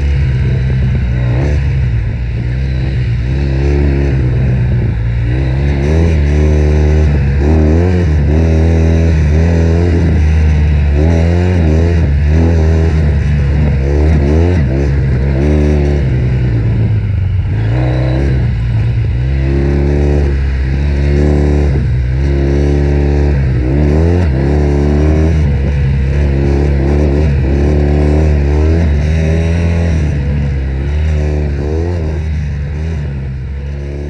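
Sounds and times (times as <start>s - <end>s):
motorcycle engine revving hard: 0.0s - 34.0s.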